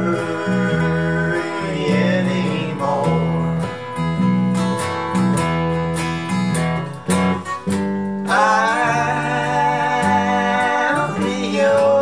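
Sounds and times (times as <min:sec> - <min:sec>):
acoustic guitar strumming: 0:00.0 - 0:12.0
electric bass line: 0:00.0 - 0:12.0.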